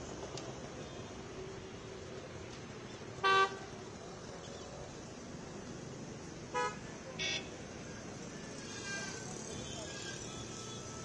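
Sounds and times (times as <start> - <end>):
traffic hum: 0.0 - 11.0.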